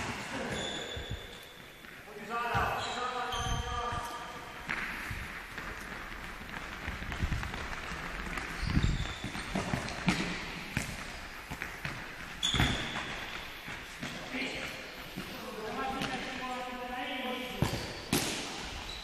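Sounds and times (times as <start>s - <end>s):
ball thuds echoing in hall: 0.0s - 19.0s.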